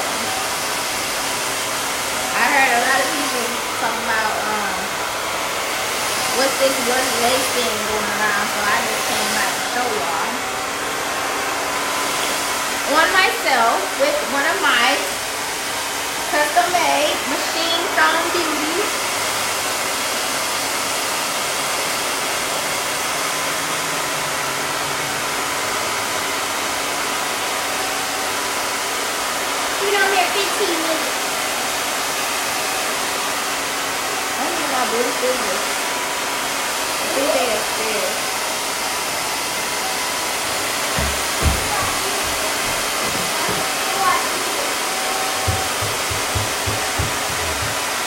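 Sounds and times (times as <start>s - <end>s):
blow dryer running: 0.0s - 48.0s.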